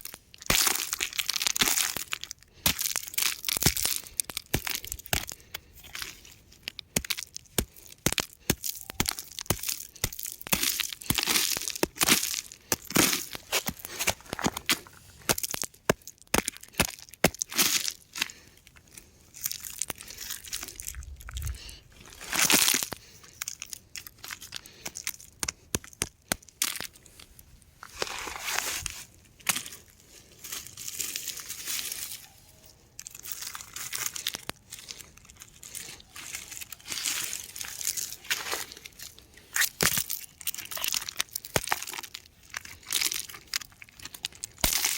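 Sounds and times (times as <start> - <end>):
rocks crumbling and crunching: 0.0 - 32.2, 33.0 - 44.9.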